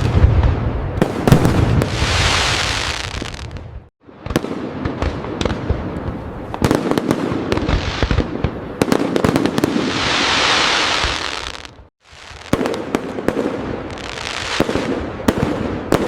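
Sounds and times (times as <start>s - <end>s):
fireworks bangs and pops: 0.0s - 16.0s
fireworks crackling: 0.0s - 16.0s.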